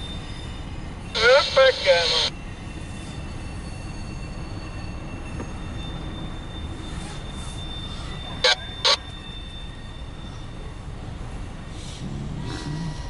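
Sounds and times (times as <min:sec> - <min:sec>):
high wheel squeal: 0:00.0 - 0:12.0
freight train rolling past: 0:00.0 - 0:12.2.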